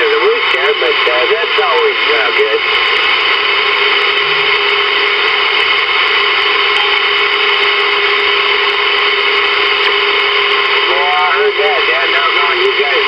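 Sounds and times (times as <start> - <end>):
radio static and hiss: 0.0 - 13.0.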